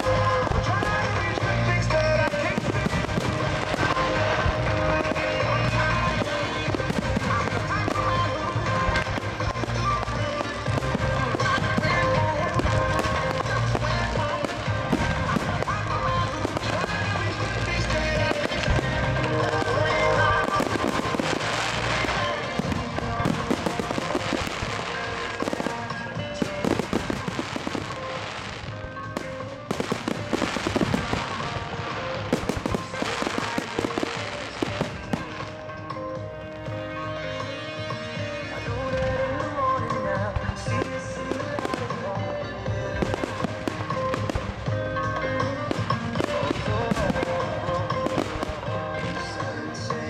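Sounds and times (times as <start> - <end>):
firework shells bursting and crackling: 0.0 - 36.1, 39.4 - 50.0
music playing: 0.0 - 50.0.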